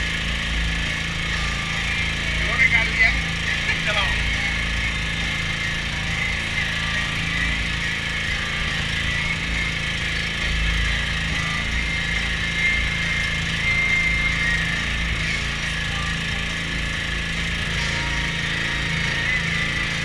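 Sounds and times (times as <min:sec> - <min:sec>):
small generator engine running: 0:00.0 - 0:20.0.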